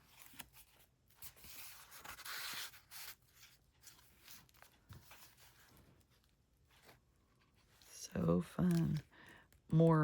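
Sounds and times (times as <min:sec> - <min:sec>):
paper pages rustling: 0:00.0 - 0:09.2.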